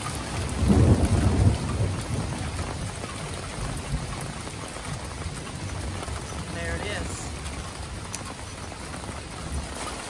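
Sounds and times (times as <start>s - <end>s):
heavy rain pouring: 0.0s - 10.0s
low rumble of thunder: 0.0s - 10.0s.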